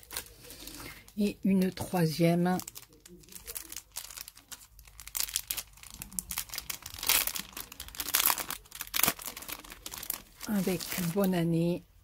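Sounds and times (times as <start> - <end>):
plastic sleeve crinkling: 0.0 - 11.6.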